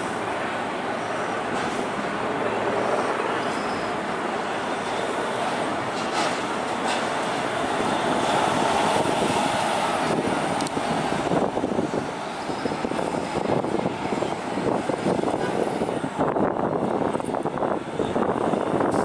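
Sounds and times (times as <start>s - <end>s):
heavy truck diesel engines rumbling: 0.0s - 19.0s.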